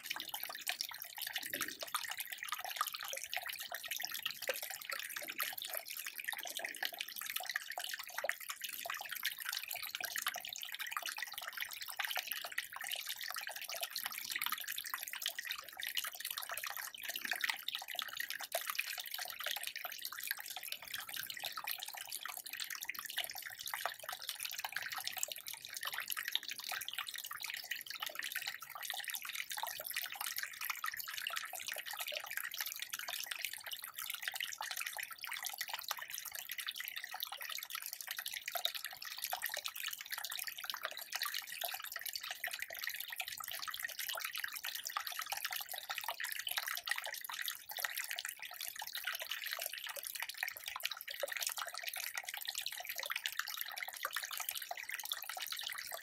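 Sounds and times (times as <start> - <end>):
stream babbling and trickling: 0.0 - 56.0.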